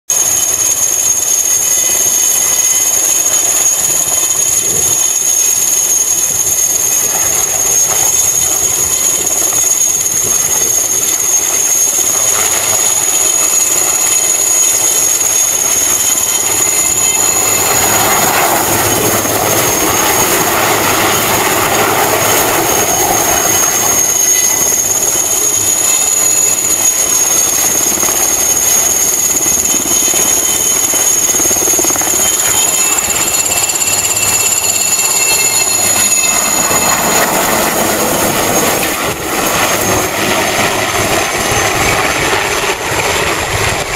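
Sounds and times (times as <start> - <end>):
helicopter rotor noise: 0.1 - 43.9
helicopter turbine whine: 0.1 - 43.9.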